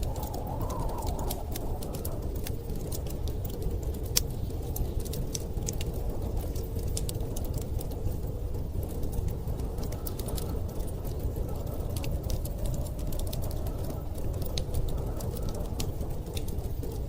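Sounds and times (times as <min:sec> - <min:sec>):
storm wind rushing: 0:00.0 - 0:17.0
wood fire crackling: 0:00.0 - 0:17.0.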